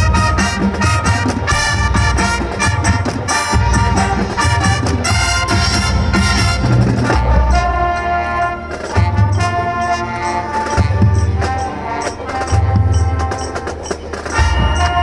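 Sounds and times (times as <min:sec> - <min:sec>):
brass chords: 0:00.0 - 0:15.0
drum and cymbal strikes: 0:00.0 - 0:15.0.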